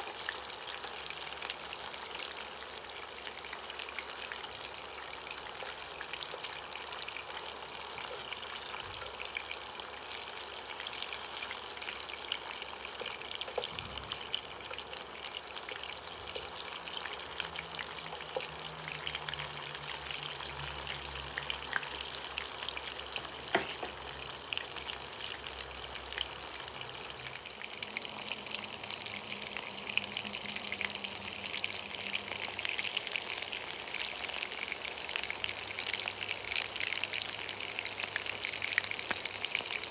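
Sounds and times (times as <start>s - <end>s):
meatballs sizzling in oil: 0.0s - 39.9s.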